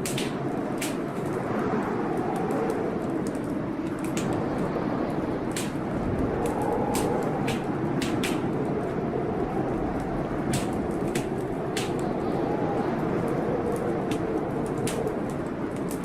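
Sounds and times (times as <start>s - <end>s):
wind howling: 0.0s - 16.0s
wood fire crackling: 0.0s - 16.0s.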